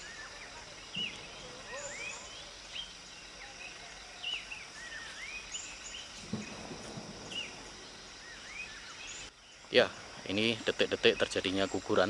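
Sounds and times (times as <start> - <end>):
birds chirping: 0.0 - 12.0
outdoor background hiss: 0.0 - 12.0.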